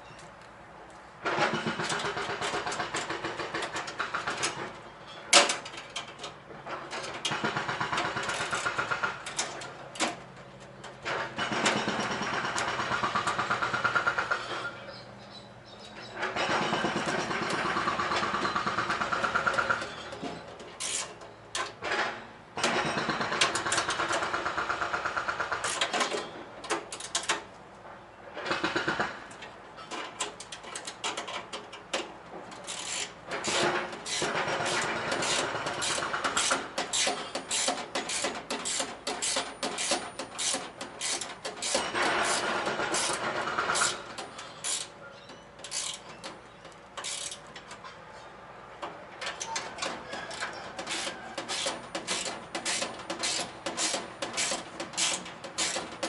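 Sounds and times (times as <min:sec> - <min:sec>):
metal parts clicking and clanking: 0:01.2 - 0:14.7, 0:15.8 - 0:27.6, 0:28.4 - 0:56.0.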